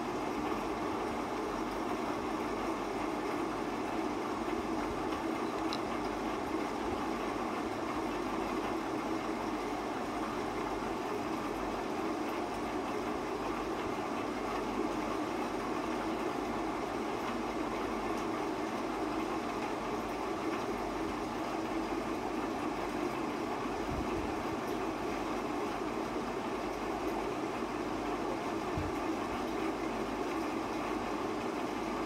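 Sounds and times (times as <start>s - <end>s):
steady hum and hiss: 0.0s - 32.0s.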